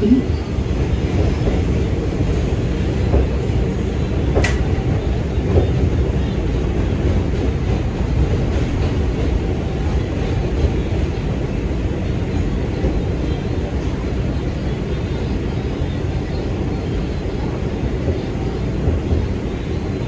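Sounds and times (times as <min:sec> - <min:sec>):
subway car rumble: 0:00.0 - 0:20.0.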